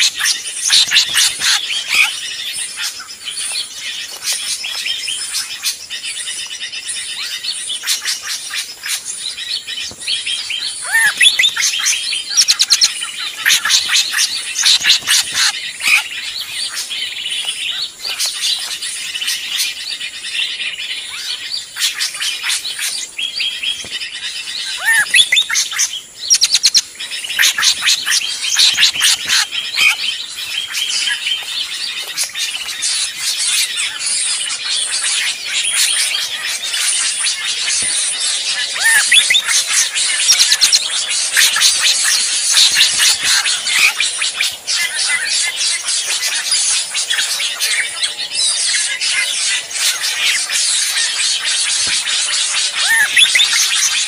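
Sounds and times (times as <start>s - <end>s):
bird chatter of chirps and whistles: 0.0s - 54.0s
swooping whistled bird calls: 0.0s - 54.0s.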